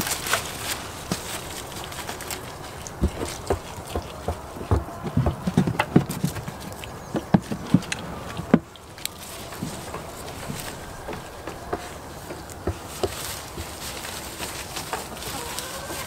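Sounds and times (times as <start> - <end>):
stems tearing: 0.0 - 5.0, 6.0 - 16.0
rustling leaves: 0.0 - 16.0.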